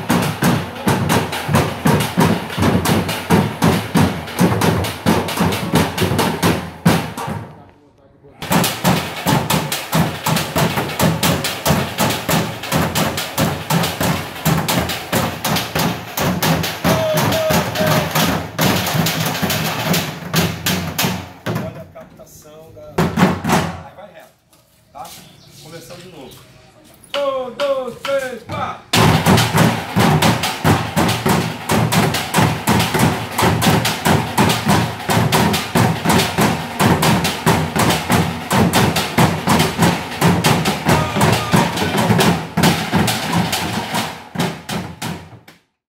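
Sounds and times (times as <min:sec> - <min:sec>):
drumming on plastic water jugs: 0:00.0 - 0:07.6, 0:08.4 - 0:22.2, 0:22.9 - 0:24.0, 0:27.2 - 0:45.8.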